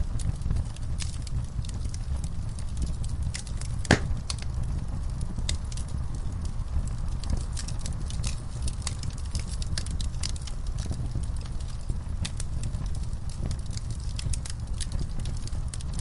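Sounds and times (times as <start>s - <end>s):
burning logs crackling and popping: 0.0s - 16.0s
low rumble of flame: 0.0s - 16.0s.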